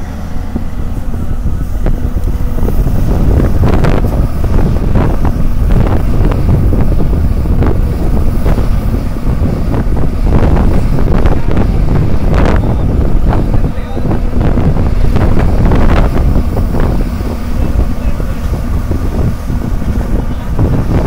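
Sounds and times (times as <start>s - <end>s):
excavator diesel engine running: 0.0s - 21.0s
wind buffeting microphone: 0.0s - 21.0s.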